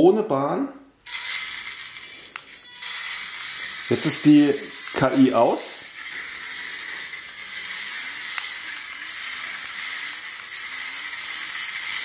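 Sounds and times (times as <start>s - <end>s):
toy race car hiss and whine: 1.1s - 12.0s.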